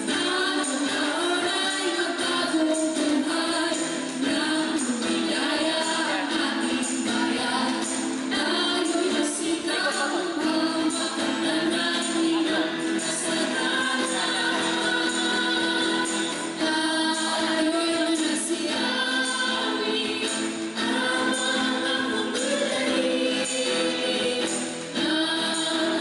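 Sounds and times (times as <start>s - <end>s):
group singing a carol: 0.0s - 26.0s
instrumental accompaniment: 0.0s - 26.0s.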